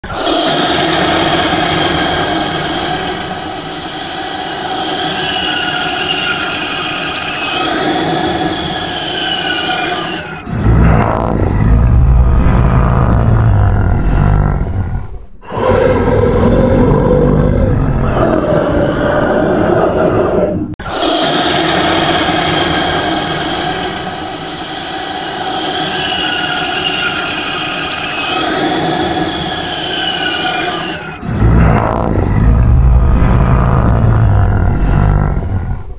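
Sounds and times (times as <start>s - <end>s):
screechy monster sound effect: 0.0s - 14.6s, 15.5s - 35.6s.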